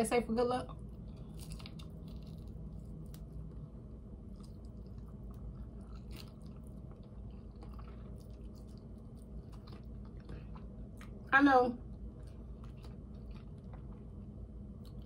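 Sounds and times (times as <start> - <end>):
person chewing chicken: 0.8 - 11.3, 11.9 - 15.0.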